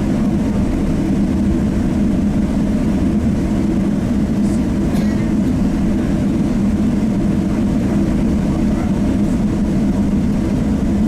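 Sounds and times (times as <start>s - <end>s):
aircraft cabin engine noise: 0.0s - 11.0s.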